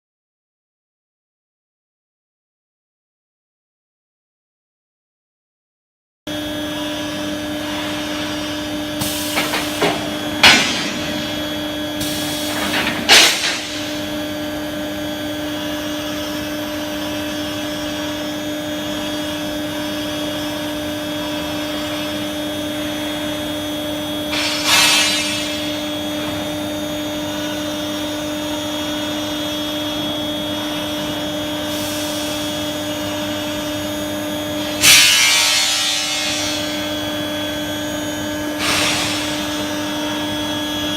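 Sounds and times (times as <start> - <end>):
steady electrical hum: 6.3 - 40.9.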